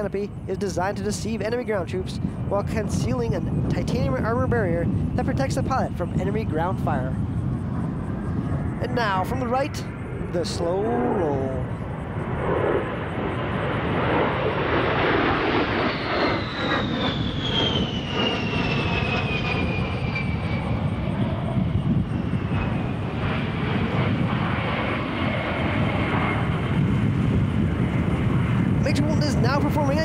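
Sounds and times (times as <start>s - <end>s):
jet engine rush with whine: 0.0s - 30.0s.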